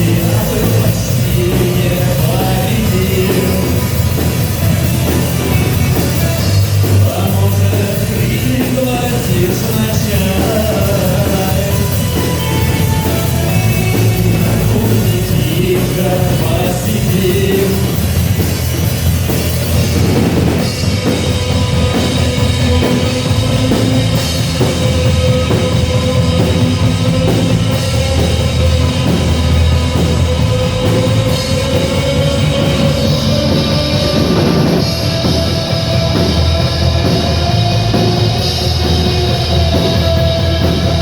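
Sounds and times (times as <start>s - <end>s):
drum kit beat: 0.0s - 41.0s
rock band playing: 0.0s - 41.0s.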